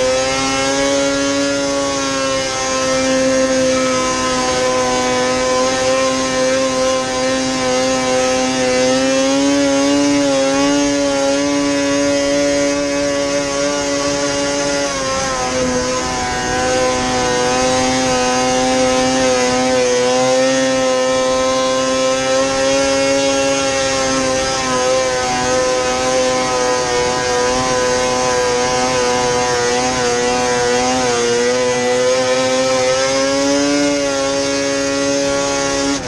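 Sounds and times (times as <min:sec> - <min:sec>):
snowmobile engine running hard: 0:00.0 - 0:36.0.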